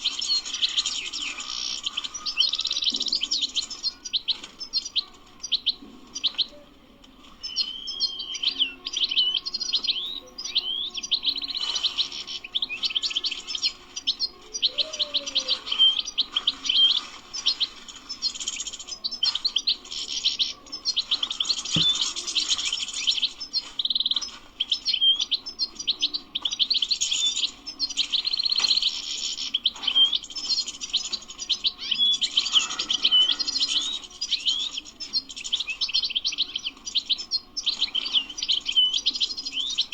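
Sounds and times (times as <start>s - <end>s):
goldfinch twittering: 7.4s - 39.9s.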